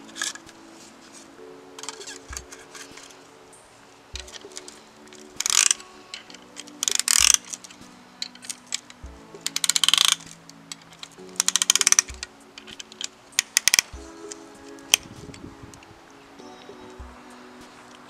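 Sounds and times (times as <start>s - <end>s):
background music with sustained chords: 0.0s - 18.0s.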